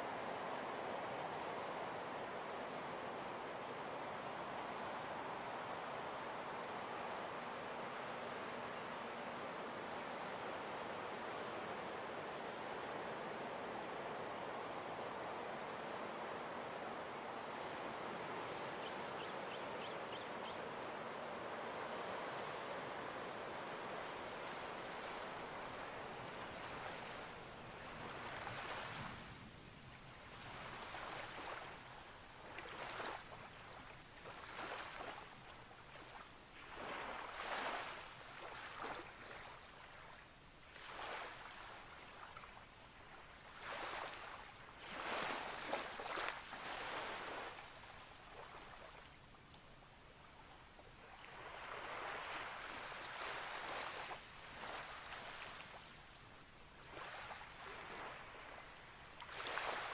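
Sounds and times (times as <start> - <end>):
small ocean waves lapping: 0.0 - 59.9.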